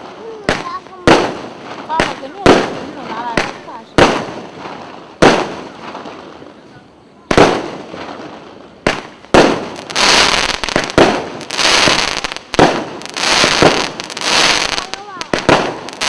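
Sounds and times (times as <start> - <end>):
firework shots and bursts: 0.0 - 6.6, 7.2 - 16.0
fireworks bangs: 0.0 - 16.0
fireworks crackling: 0.0 - 16.0.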